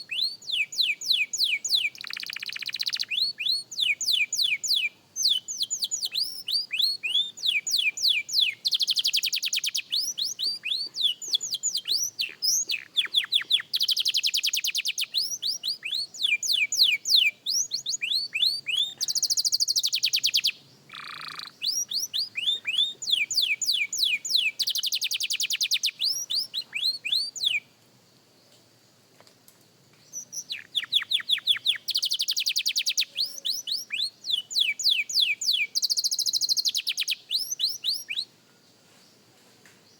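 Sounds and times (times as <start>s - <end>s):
canary singing: 0.0s - 27.7s, 30.0s - 38.3s.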